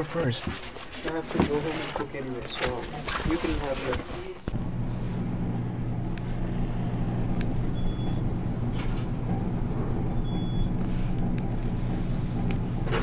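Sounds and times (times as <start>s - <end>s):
elevator mechanical hum: 0.0s - 13.0s.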